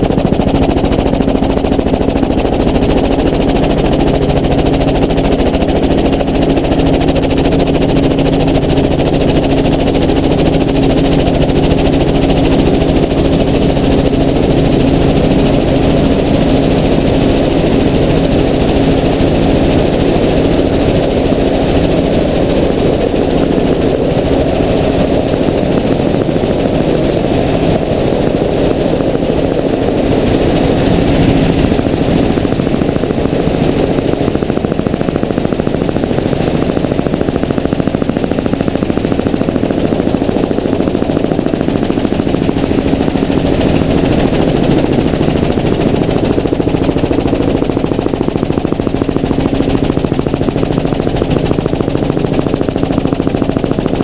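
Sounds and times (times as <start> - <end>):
aircraft rotor and engine noise: 0.0 - 54.0.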